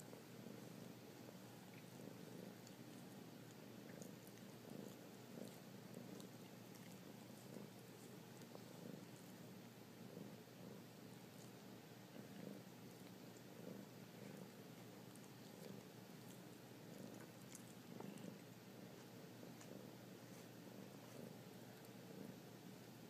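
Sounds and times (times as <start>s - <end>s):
kitten purring: 0.0s - 23.0s.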